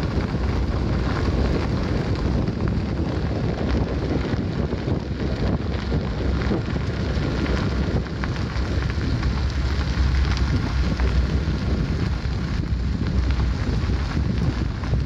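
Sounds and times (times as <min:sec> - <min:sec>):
faint crackles: 0:00.0 - 0:15.0
wind buffeting microphone: 0:00.0 - 0:15.0.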